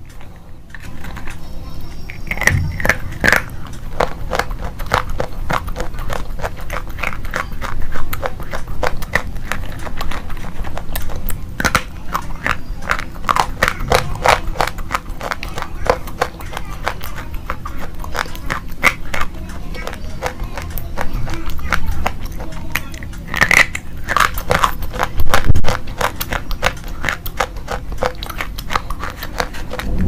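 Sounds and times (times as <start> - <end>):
crunching of pencils being chewed: 0.0 - 30.0.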